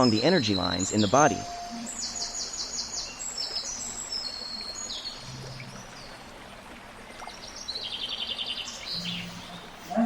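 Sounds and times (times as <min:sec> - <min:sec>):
birds chirping: 0:00.0 - 0:10.0
rushing water: 0:00.0 - 0:10.0.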